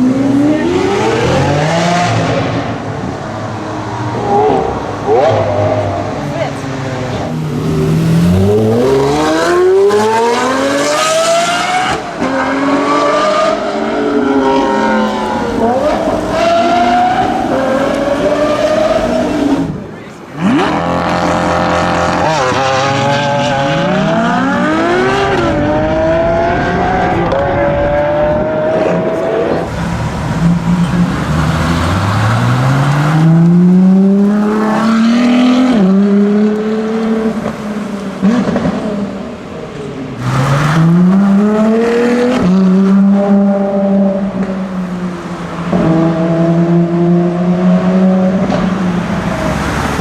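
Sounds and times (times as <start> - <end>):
car engine accelerating hard: 4.2 - 50.0.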